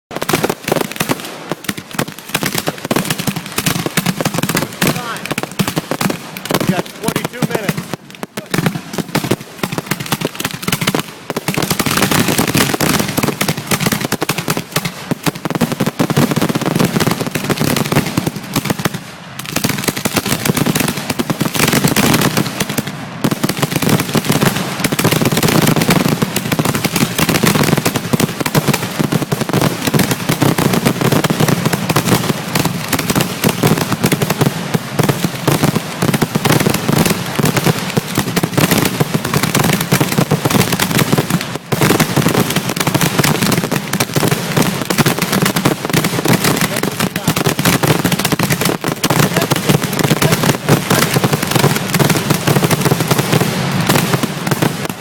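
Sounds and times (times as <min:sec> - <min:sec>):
fireworks popping and crackling: 0:00.0 - 0:55.0.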